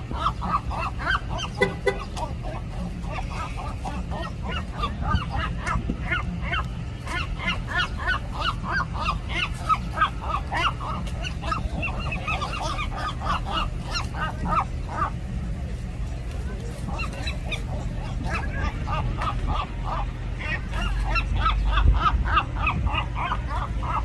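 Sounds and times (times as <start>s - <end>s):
seagulls calling harshly: 0.0s - 24.0s
steady low rumble: 0.0s - 24.0s.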